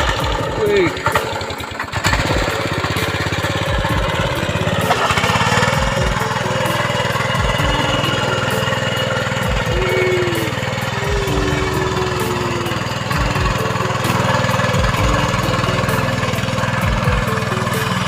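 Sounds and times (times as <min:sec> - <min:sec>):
small tiller engine running: 0:00.0 - 0:18.0.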